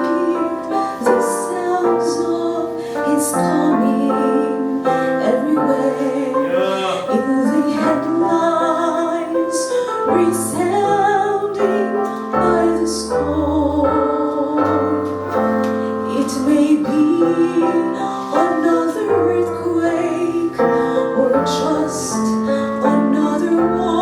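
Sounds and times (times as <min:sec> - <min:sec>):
piano playing held chords: 0:00.0 - 0:24.0.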